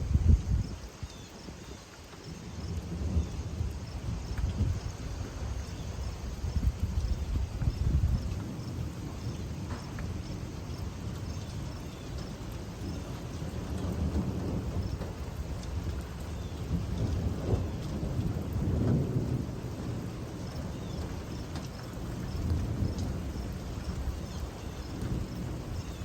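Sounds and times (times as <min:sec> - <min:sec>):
steady rain: 0:00.0 - 0:26.0
rolling thunder: 0:02.2 - 0:26.0.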